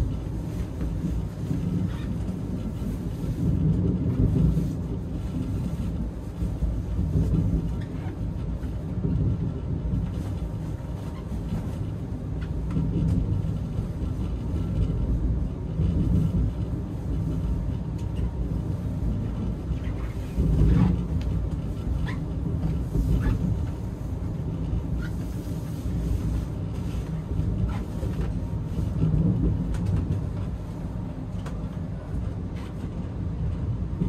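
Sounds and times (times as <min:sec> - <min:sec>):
train carriage rumble: 0:00.0 - 0:34.0.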